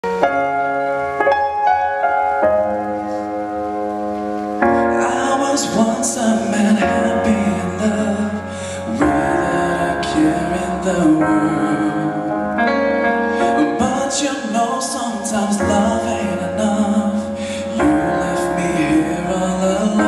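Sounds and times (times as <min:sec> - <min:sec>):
band accompaniment: 0:00.0 - 0:20.0
sustained keyboard chords: 0:00.0 - 0:20.0.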